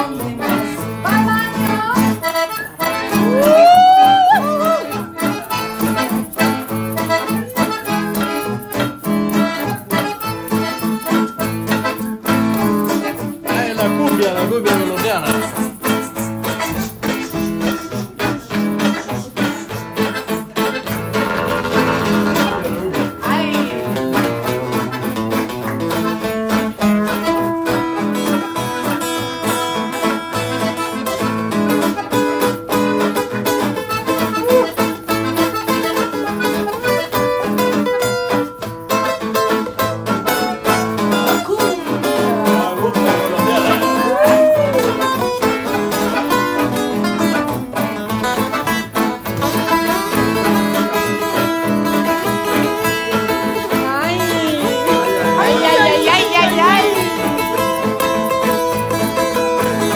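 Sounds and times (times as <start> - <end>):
accordion melody: 0.0 - 59.9
strummed acoustic guitar: 0.0 - 59.9.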